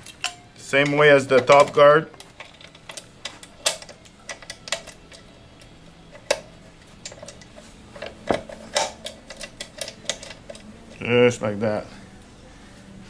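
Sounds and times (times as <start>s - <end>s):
metal hardware clicking and clinking: 0.0s - 11.0s.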